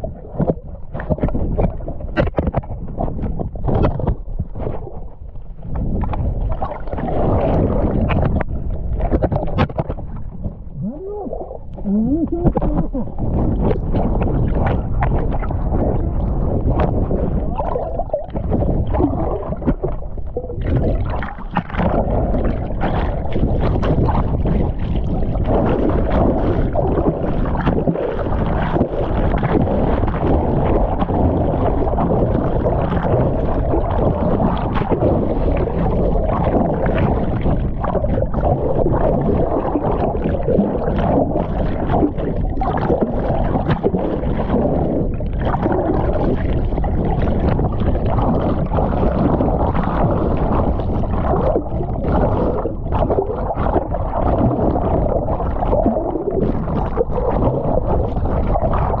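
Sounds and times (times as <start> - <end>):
water sloshing around a kayak: 0.0 - 59.0.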